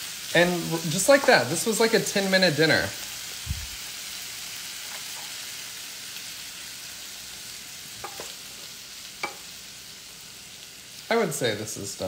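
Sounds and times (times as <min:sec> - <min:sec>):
shrimp sizzling in a frying pan: 0:00.0 - 0:12.0.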